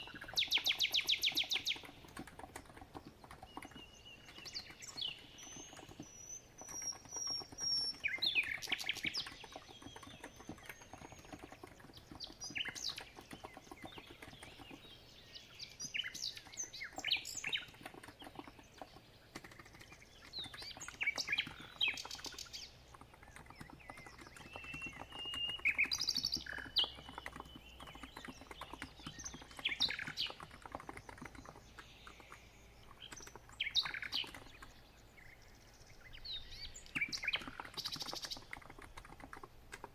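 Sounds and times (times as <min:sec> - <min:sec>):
keyboard typing: 0:00.0 - 0:15.0, 0:15.9 - 0:34.8, 0:36.9 - 0:39.9
birds chirping: 0:00.0 - 0:39.9.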